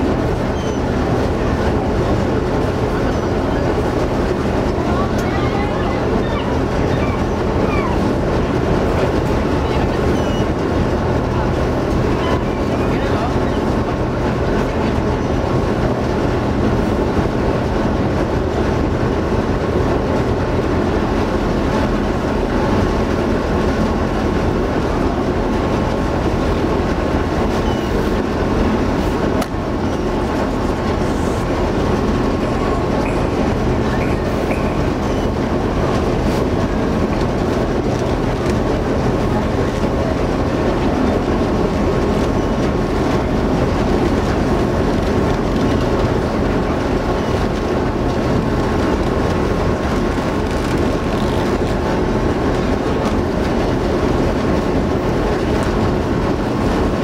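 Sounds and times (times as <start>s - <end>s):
ship engines rumbling: 0.0s - 57.0s.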